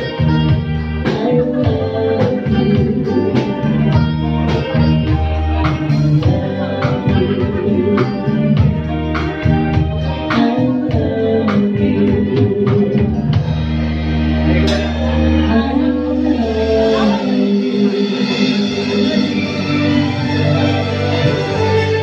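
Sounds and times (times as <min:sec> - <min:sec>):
male and female voices singing: 0:00.0 - 0:04.9, 0:05.6 - 0:13.5, 0:14.5 - 0:22.0
bass guitar: 0:00.0 - 0:22.0
electric guitars: 0:00.0 - 0:22.0
keyboard: 0:00.0 - 0:22.0.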